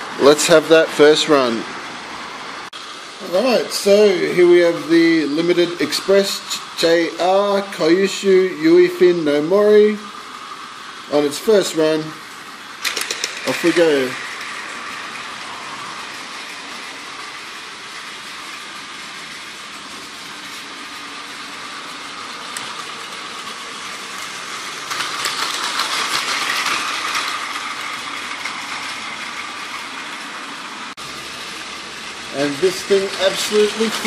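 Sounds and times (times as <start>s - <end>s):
wheels rattling on plastic rails: 3.2s - 10.5s, 11.1s - 34.0s
toy train motor whirring: 3.3s - 34.0s.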